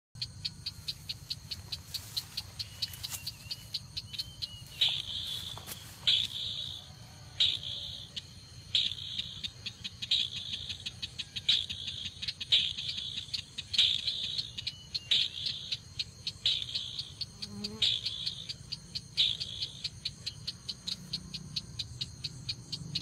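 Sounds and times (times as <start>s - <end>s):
crake rattling call: 0.2s - 23.0s
crake ticking call: 0.2s - 23.0s.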